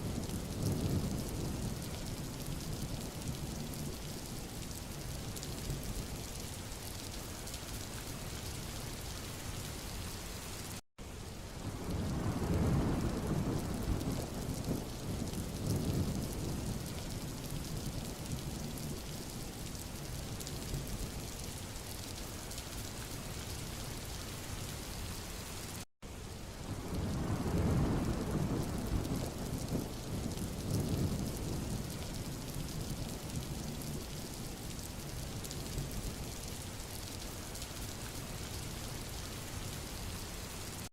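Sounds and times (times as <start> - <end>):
rain hissing on road: 0.0 - 40.9.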